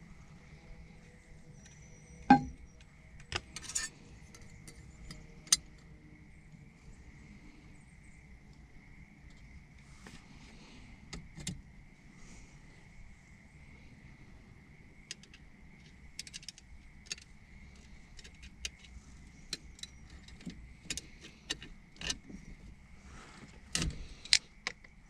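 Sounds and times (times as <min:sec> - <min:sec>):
faint steady high whine: 0:00.0 - 0:25.0.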